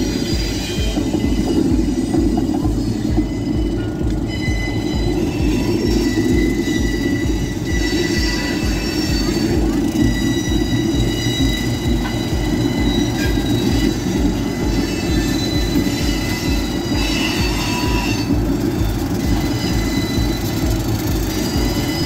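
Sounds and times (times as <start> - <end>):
locomotive engine rumble: 0.0 - 22.0
wheels squealing on rails: 0.0 - 22.0.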